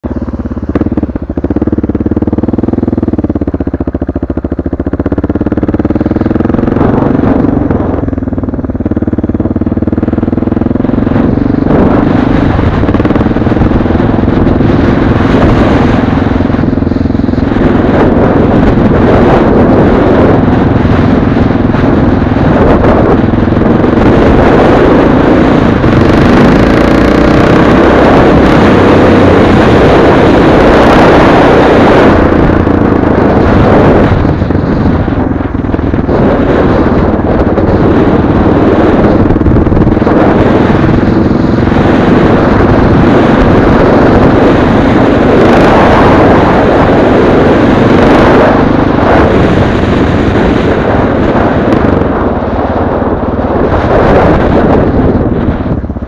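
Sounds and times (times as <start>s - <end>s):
motorcycle engine running: 0.0s - 56.0s
wind rush over microphone: 0.0s - 56.0s.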